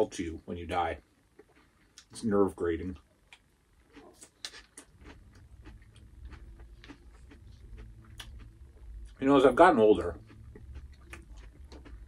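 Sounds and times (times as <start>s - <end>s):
low steady hum: 0.0s - 12.0s
chewing cereal: 1.4s - 2.2s, 2.8s - 12.0s.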